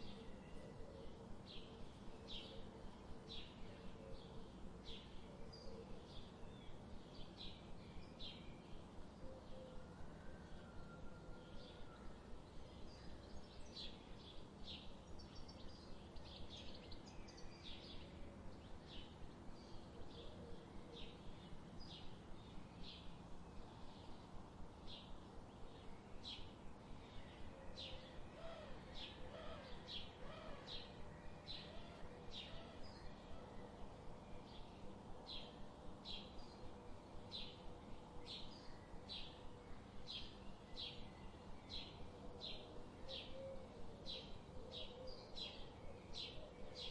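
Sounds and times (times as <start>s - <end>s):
faint low hum: 0.0s - 46.9s.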